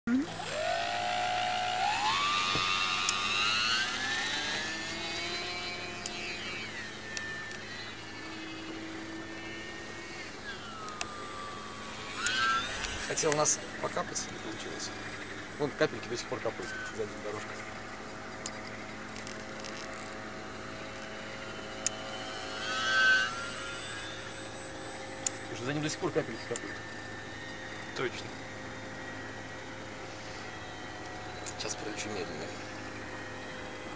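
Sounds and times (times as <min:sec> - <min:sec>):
model plane motor whining: 0:00.1 - 0:33.9.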